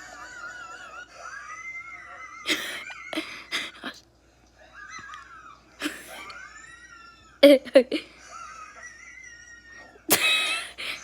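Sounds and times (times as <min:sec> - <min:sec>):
wheezing laughter: 0:00.0 - 0:04.0, 0:04.6 - 0:11.0.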